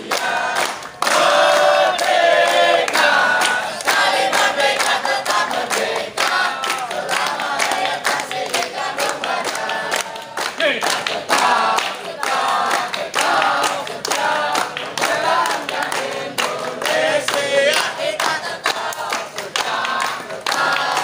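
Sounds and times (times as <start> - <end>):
boys chanting in unison: 0.0 - 21.0
hand claps: 0.0 - 21.0.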